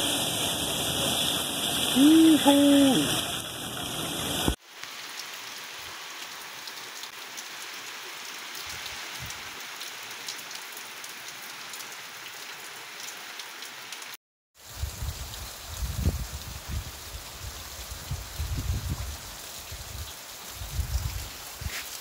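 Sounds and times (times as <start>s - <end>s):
steady rain on foliage: 0.0s - 22.0s.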